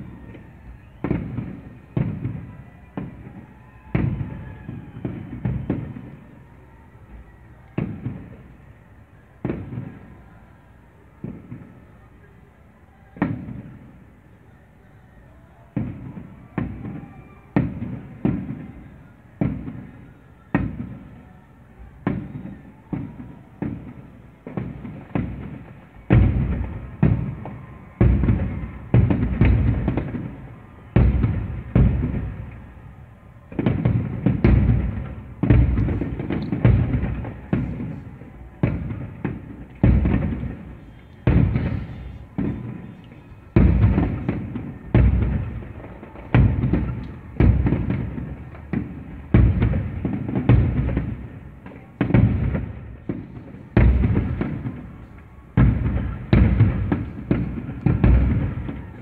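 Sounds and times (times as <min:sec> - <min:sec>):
fireworks bursting with booms: 0:00.0 - 0:14.6, 0:15.2 - 0:59.0.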